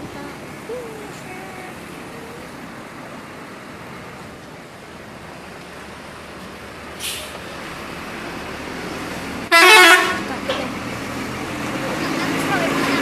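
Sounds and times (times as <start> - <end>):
roadside traffic rushing: 0.0 - 13.0.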